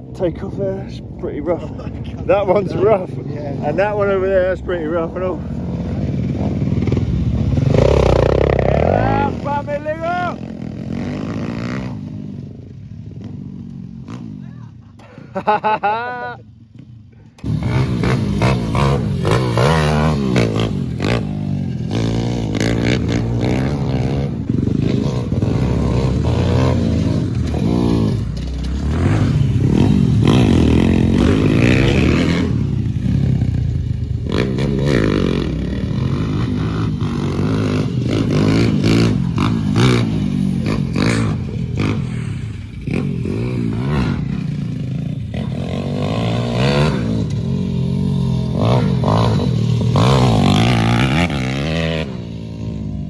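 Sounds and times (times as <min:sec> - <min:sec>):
dirt bike engines revving: 0:00.0 - 0:53.0.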